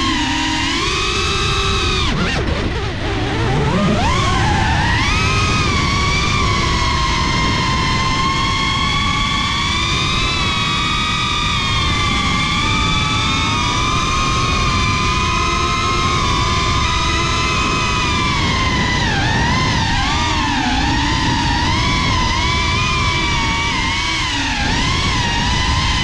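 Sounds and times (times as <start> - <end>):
drone motors whining: 0.0 - 26.0
wind and prop wash rushing: 0.0 - 26.0.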